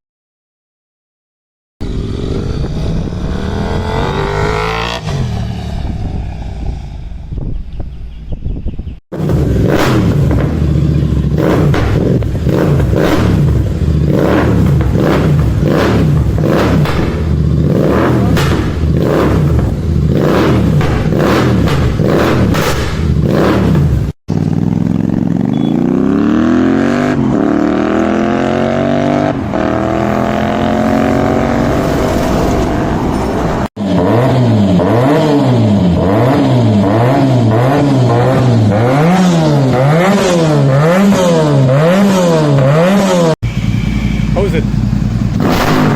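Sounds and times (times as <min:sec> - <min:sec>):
motorcycle accelerating hard: 0:01.8 - 0:07.7, 0:09.1 - 0:45.9
motorcycle engine revving: 0:01.8 - 0:08.4, 0:09.1 - 0:45.9.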